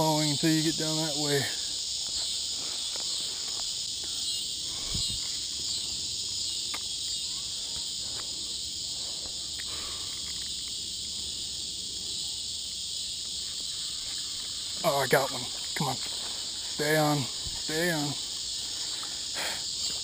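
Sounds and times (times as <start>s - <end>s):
cicada droning: 0.0s - 20.0s.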